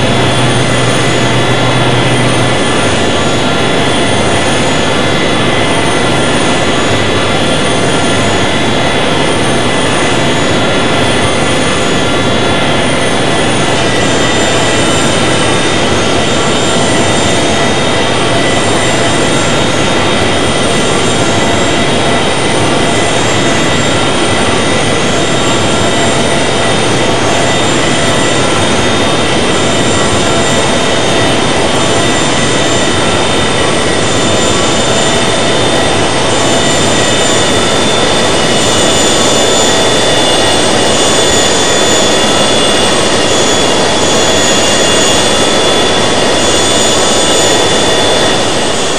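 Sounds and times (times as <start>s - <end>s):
jet engines rushing in cabin: 0.0s - 48.9s
steady whining tones: 0.0s - 48.9s.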